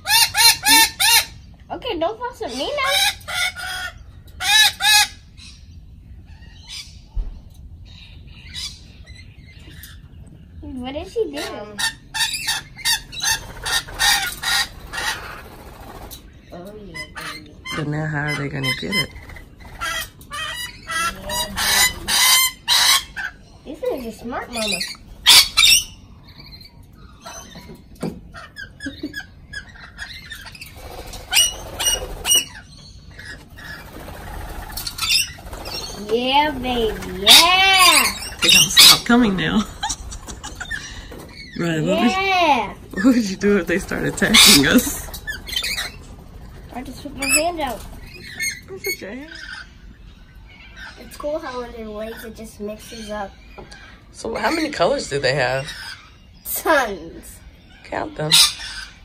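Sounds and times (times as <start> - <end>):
lorikeets squawking: 0.0 - 59.0.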